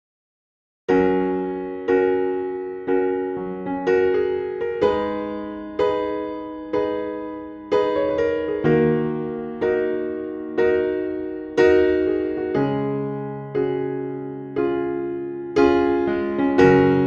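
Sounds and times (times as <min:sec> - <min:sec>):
slow electric piano chords: 0:00.9 - 0:17.0.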